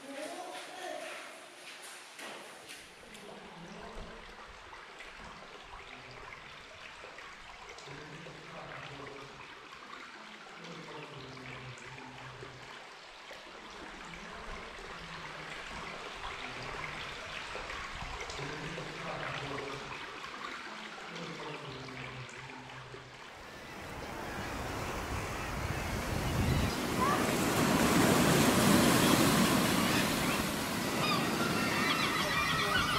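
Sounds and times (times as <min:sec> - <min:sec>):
water rushing and trickling: 0:00.0 - 0:32.9.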